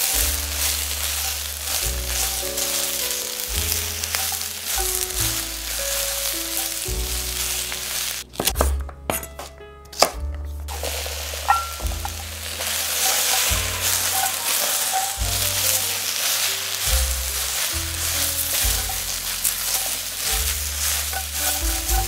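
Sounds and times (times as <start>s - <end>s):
vegetables sizzling in oil: 0.0s - 8.3s, 10.7s - 22.0s
background music: 0.0s - 22.0s.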